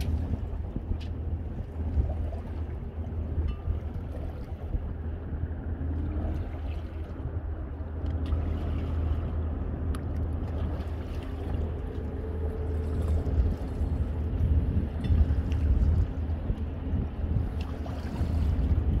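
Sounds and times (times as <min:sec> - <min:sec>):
water washing along hull: 0:00.0 - 0:19.0
wind noise on microphone: 0:00.0 - 0:19.0.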